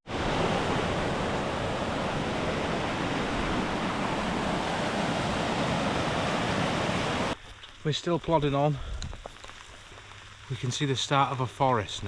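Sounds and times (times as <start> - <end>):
rain: 0.1 - 12.0.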